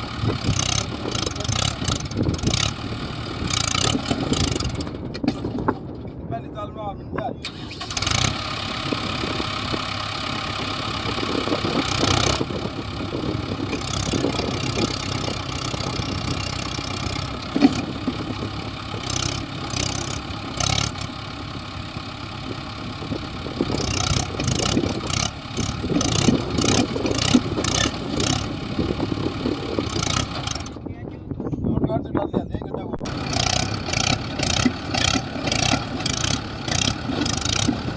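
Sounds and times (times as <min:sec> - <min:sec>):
heavy diesel engine revving: 0:00.0 - 0:05.1, 0:07.4 - 0:30.8, 0:33.0 - 0:37.9.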